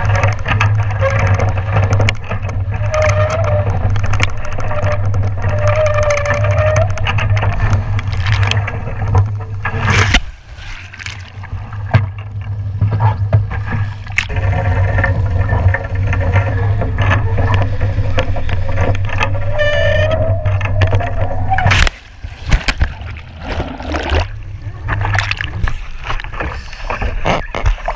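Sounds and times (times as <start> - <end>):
rushing water: 0.0 - 27.9.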